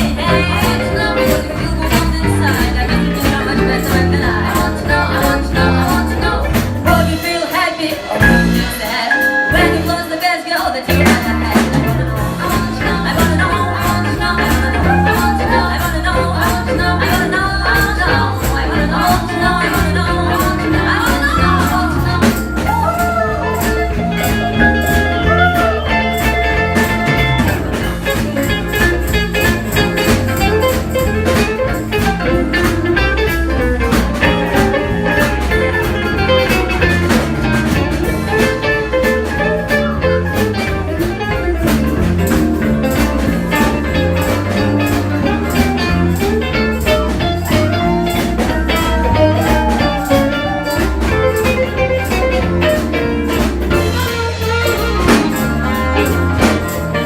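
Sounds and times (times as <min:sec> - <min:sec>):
live blues band playing: 0:00.0 - 0:57.0.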